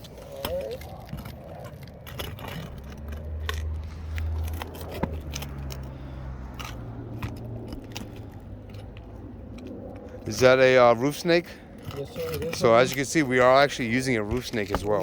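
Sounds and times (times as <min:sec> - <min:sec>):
scraping and crackling of shingles: 0:00.0 - 0:15.0
vehicle engine humming: 0:00.0 - 0:15.0.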